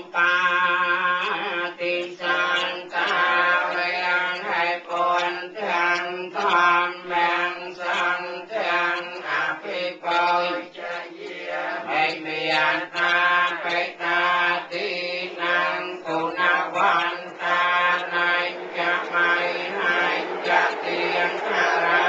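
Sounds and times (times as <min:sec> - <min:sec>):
voices chanting: 0:00.0 - 0:22.0.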